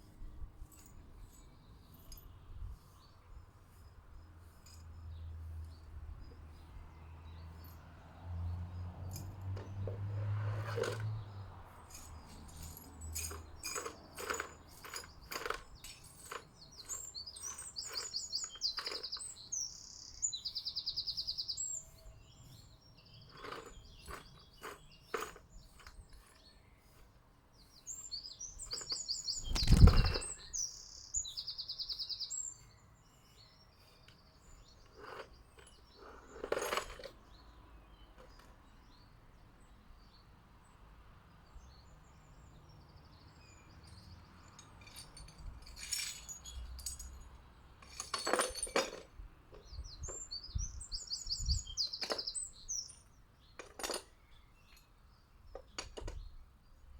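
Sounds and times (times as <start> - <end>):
small birds chirping: 0.0 - 7.8, 10.6 - 47.3, 48.0 - 56.9.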